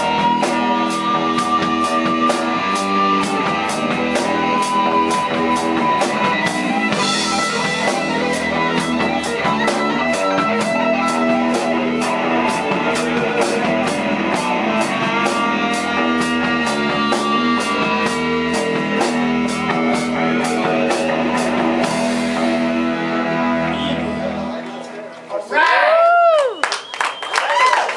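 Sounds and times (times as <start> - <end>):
drum kit beat: 0.0 - 24.4
rock band playing: 0.0 - 25.1
electric guitar: 0.0 - 25.2.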